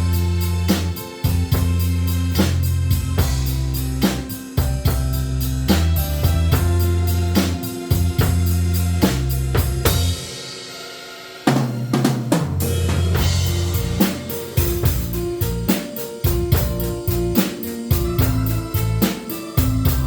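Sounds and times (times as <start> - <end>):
instrumental pop music: 0.0 - 20.0.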